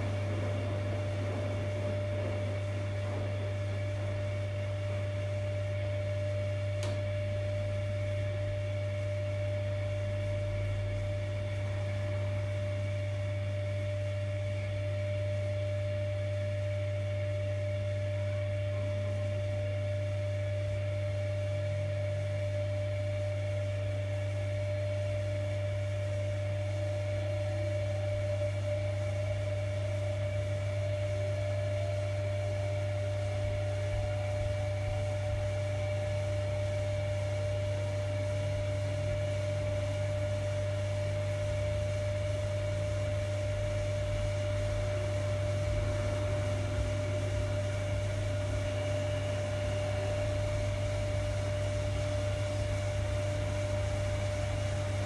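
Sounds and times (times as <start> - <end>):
washing machine hum and whine: 0.0 - 55.0.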